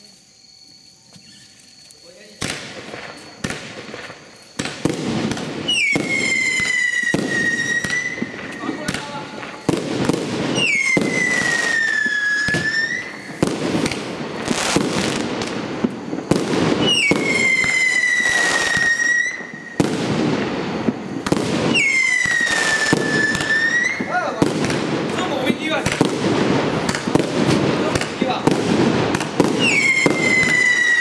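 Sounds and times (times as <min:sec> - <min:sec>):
firework whistles: 0:01.1 - 0:31.0
fireworks shots and crackles: 0:02.4 - 0:31.0.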